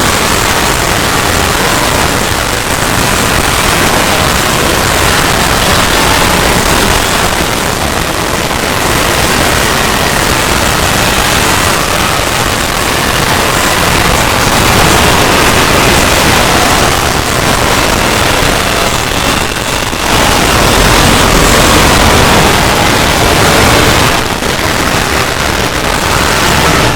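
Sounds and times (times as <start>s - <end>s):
harsh distorted noise: 0.0s - 26.9s.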